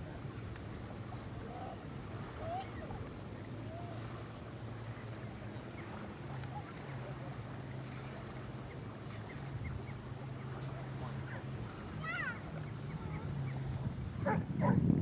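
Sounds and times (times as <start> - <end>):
motorboat engine droning: 0.0 - 15.0
birds chirping: 1.6 - 14.8.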